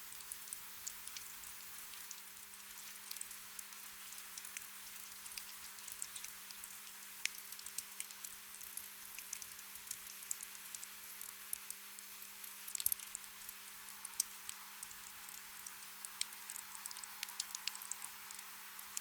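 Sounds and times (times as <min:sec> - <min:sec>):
gentle rain hiss: 0:00.0 - 0:19.0
raindrops ticking and pattering: 0:00.0 - 0:19.0.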